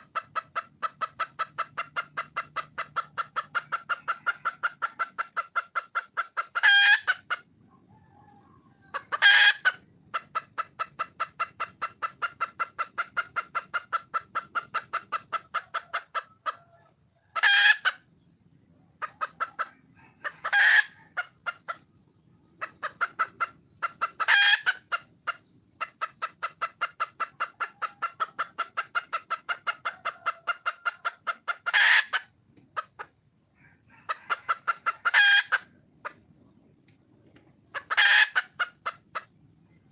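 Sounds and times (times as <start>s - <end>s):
hen clucking rapidly: 0.0s - 39.9s.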